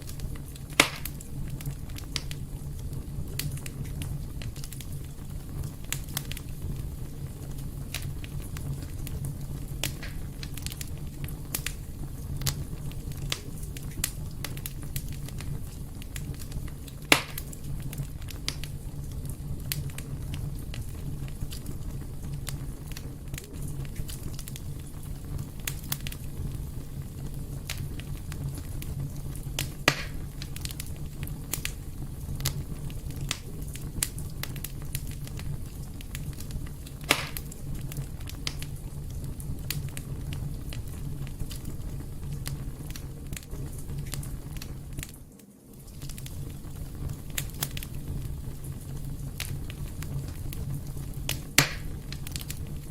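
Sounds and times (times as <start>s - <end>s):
fire crackling and popping: 0.0s - 52.9s
fire rumbling in fireplace: 0.0s - 52.9s.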